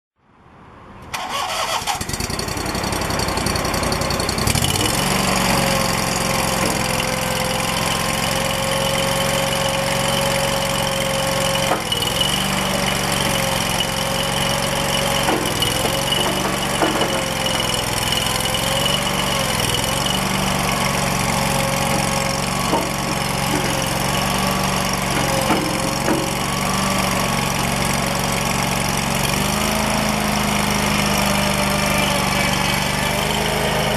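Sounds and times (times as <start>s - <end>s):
engine starting and running: 1.0s - 33.9s.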